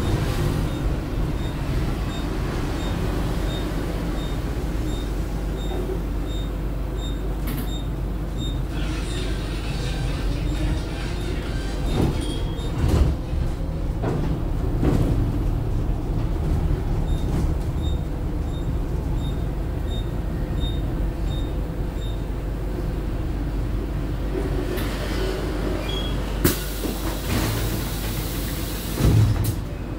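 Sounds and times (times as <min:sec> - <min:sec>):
bus motor and road rumble: 0:00.0 - 0:29.9.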